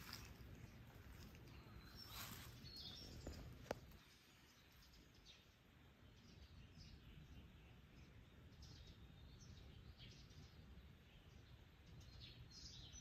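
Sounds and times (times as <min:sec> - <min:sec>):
faint birds chirping: 0:00.0 - 0:13.0
low outdoor background noise: 0:00.0 - 0:13.0.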